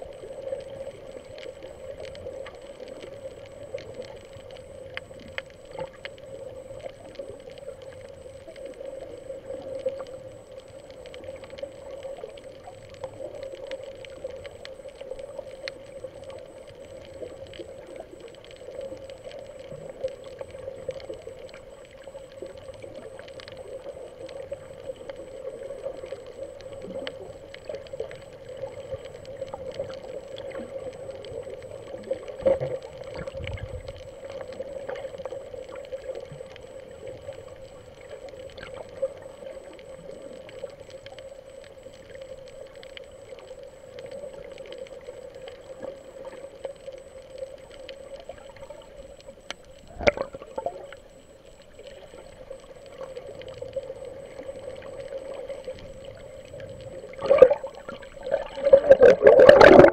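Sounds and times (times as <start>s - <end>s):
muffled underwater hum: 0.0s - 59.9s
sharp clicks and crackles: 0.0s - 59.9s.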